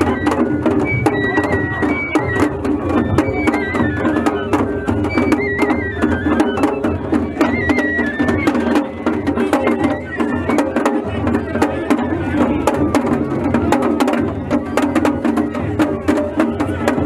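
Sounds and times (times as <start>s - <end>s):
taiko drums: 0.0s - 17.0s
trilling bamboo flute melody: 0.0s - 17.0s.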